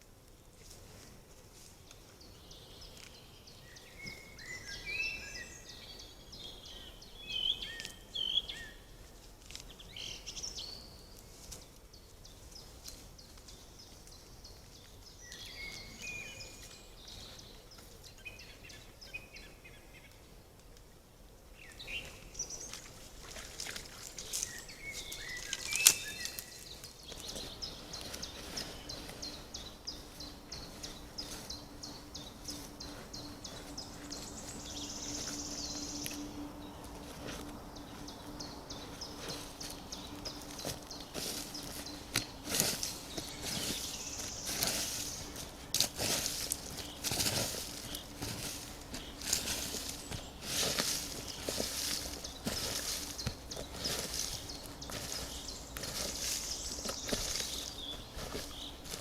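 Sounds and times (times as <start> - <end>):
small birds chirping: 1.6 - 59.0.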